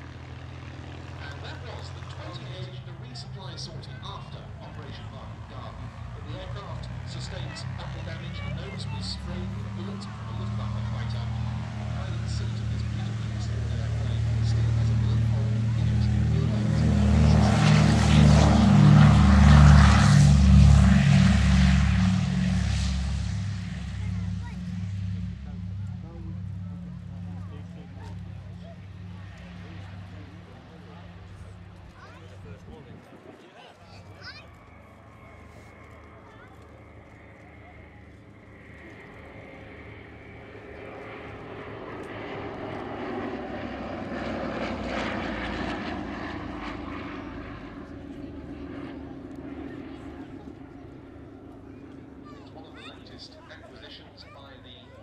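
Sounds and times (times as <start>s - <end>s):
propeller aircraft engines passing: 0.0s - 55.0s.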